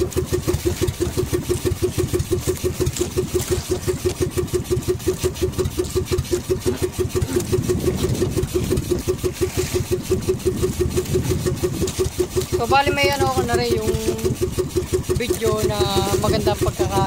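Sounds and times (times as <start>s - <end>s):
boat engine throbbing: 0.0s - 17.0s.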